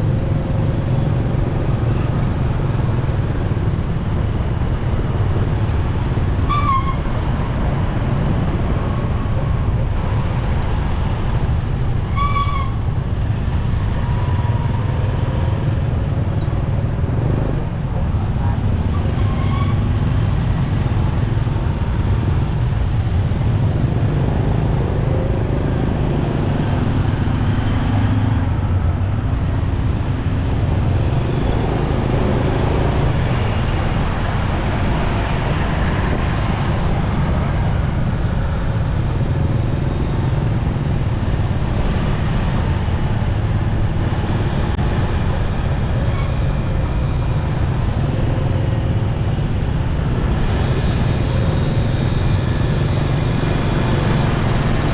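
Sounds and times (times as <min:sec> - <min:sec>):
road traffic noise: 0:00.0 - 0:54.9.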